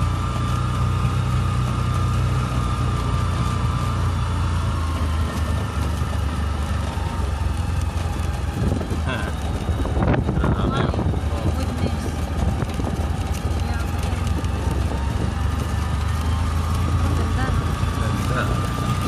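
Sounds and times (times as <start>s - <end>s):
engine and road drone: 0.0s - 19.0s.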